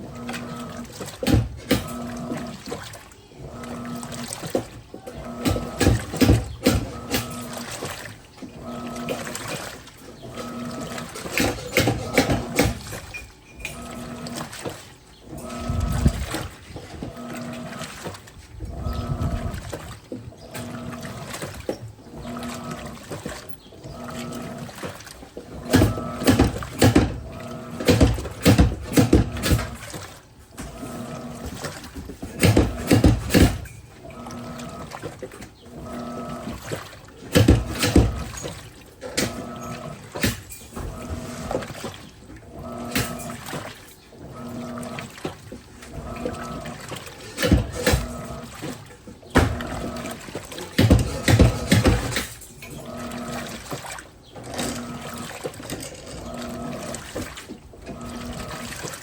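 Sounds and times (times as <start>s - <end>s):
washing machine motor hum: 0.0s - 59.0s
water sloshing in washing machine: 0.0s - 59.0s.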